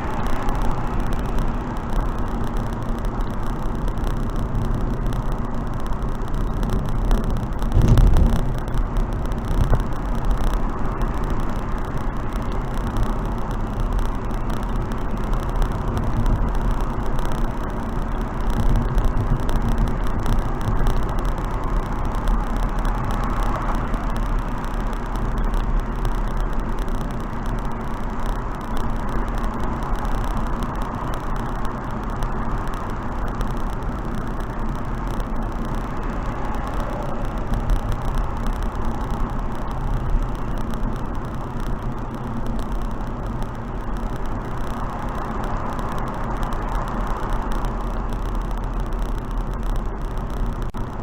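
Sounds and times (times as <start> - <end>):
car wind and road noise: 0.0 - 51.0
loud low rumble: 0.0 - 51.0.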